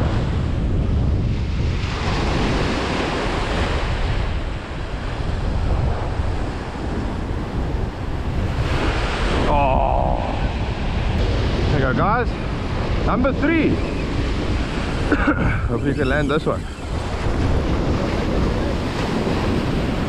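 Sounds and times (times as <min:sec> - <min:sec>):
surf washing up a beach: 0:00.0 - 0:20.0
wind buffeting microphone: 0:00.0 - 0:20.0.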